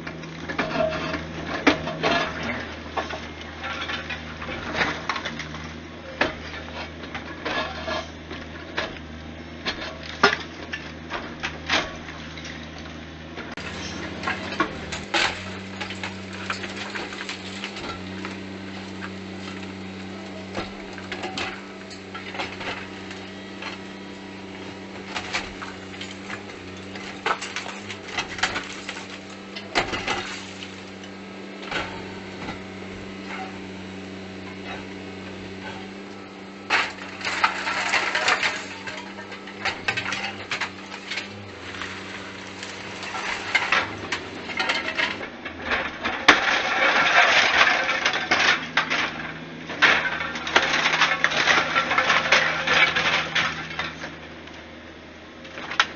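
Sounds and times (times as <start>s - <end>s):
excavator engine running: 0.0s - 55.9s
rubble clattering and crashing: 0.0s - 55.9s.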